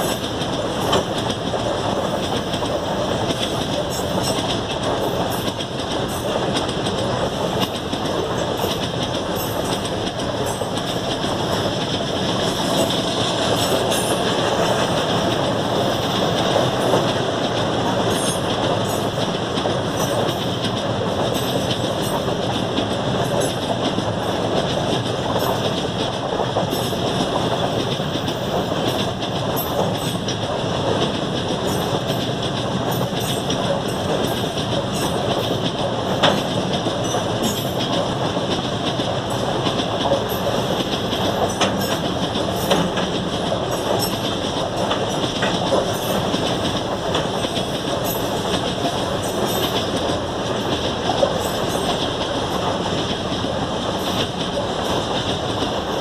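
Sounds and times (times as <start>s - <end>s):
train wheels rumbling on rail: 0.0s - 56.0s
wheels clicking over track: 0.0s - 56.0s.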